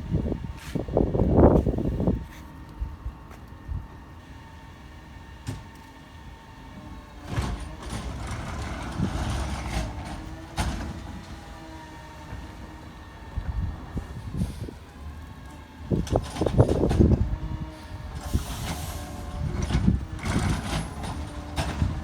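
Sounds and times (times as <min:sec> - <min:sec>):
hydraulic whine and rattle: 0:00.0 - 0:22.0
truck engine running: 0:00.0 - 0:22.0.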